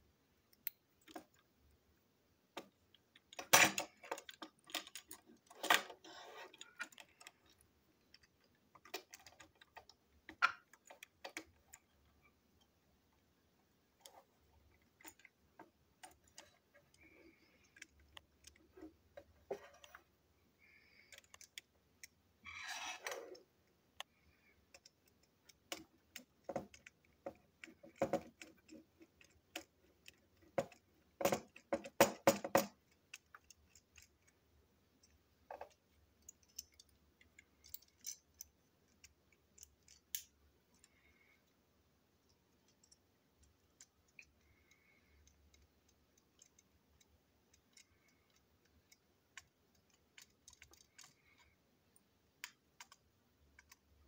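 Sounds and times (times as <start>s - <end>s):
toy train parts clicking and rattling: 2.6s - 12.8s, 13.7s - 54.0s.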